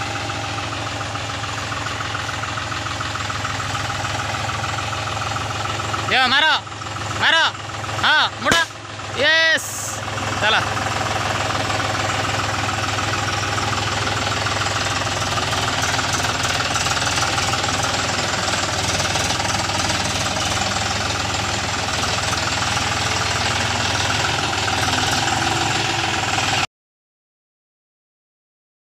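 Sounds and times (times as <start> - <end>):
tractor diesel engine running: 0.0 - 26.7.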